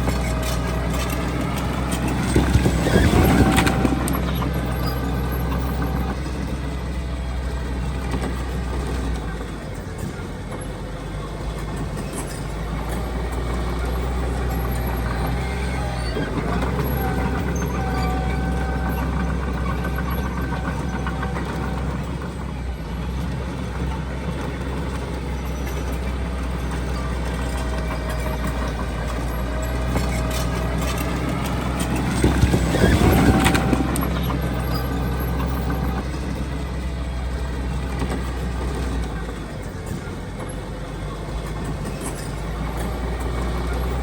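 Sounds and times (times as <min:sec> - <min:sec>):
construction machinery engine drone: 0:00.0 - 0:44.0.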